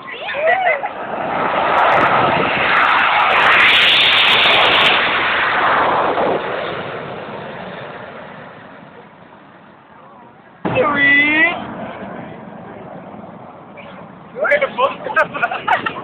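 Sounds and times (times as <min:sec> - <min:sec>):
jets flying past roaring: 0:00.0 - 0:16.0.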